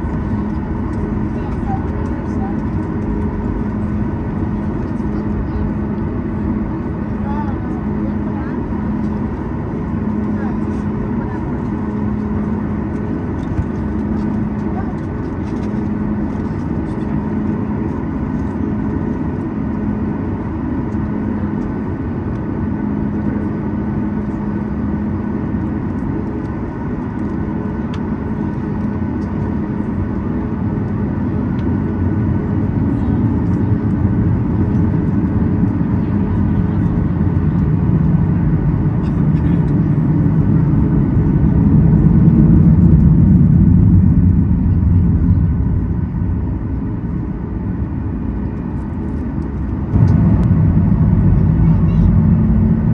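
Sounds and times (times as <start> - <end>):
jet engines rumbling in cabin: 0.0 - 52.9.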